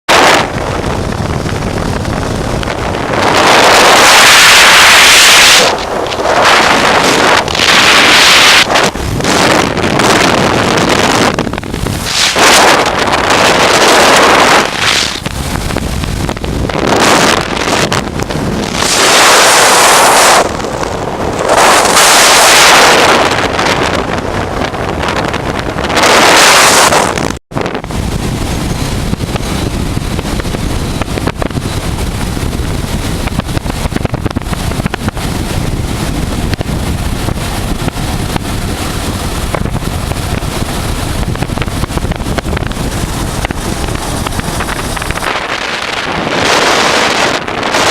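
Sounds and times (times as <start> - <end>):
motorcycle riding noise: 0.0 - 47.9
wind buffeting microphone: 0.1 - 47.9.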